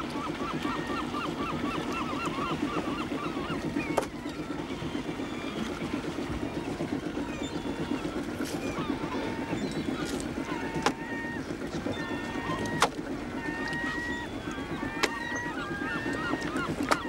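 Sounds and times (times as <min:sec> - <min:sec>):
birds calling: 0:00.0 - 0:17.0
boat engine chugging: 0:00.0 - 0:17.0.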